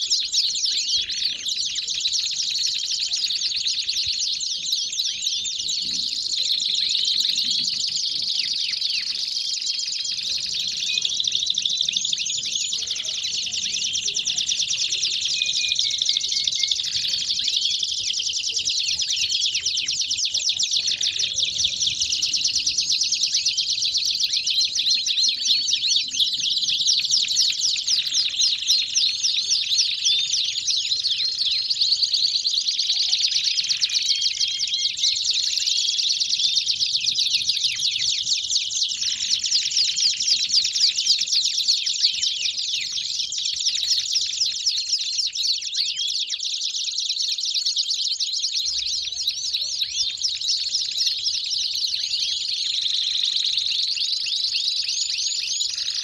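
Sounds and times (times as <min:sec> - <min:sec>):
canaries singing trills: 0:00.0 - 0:56.0.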